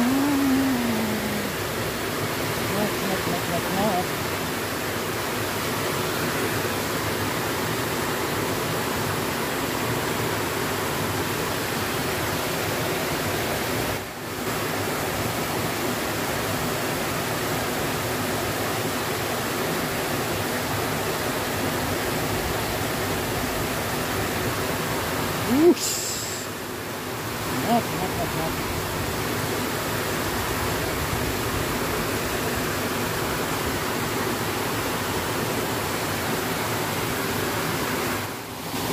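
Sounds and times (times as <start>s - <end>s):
water rushing over weir and rocks: 0.0s - 38.9s.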